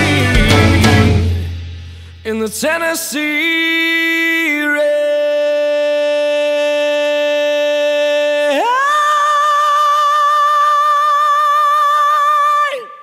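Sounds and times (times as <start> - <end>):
person singing long notes: 0.0 - 1.5, 2.3 - 13.0.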